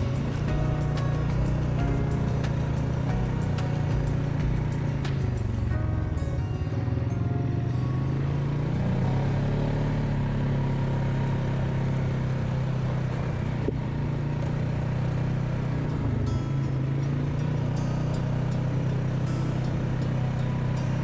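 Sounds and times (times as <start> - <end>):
atv engine droning: 0.0 - 21.0.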